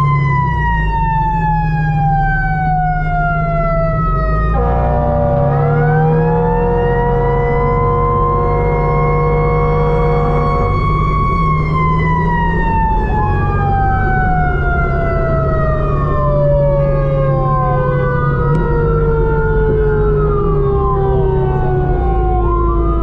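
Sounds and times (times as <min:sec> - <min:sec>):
electronic siren wailing: 0:00.0 - 0:23.0
fire engine engine droning: 0:00.0 - 0:23.0
mechanical siren winding down: 0:00.0 - 0:23.0.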